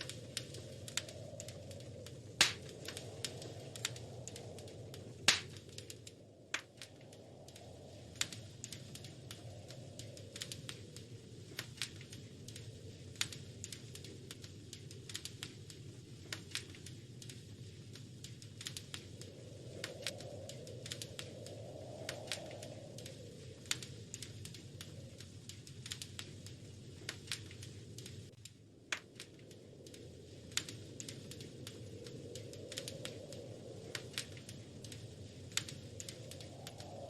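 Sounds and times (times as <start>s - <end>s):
low rush of flames: 0.0s - 37.0s
wood fire crackling and popping: 0.0s - 37.0s.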